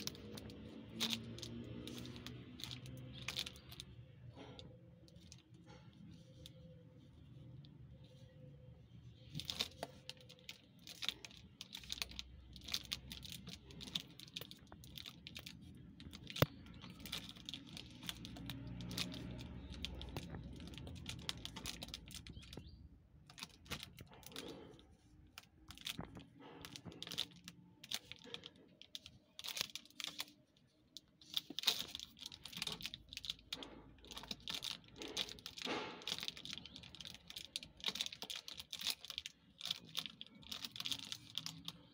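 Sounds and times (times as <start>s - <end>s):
plastic strap crackling and rustling: 0.0s - 41.9s.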